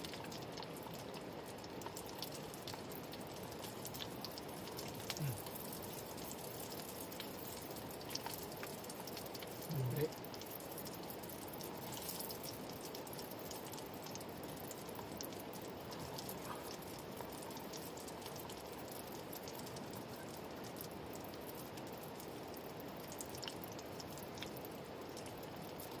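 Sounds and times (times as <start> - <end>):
food deep-frying in hot oil: 0.0 - 26.0.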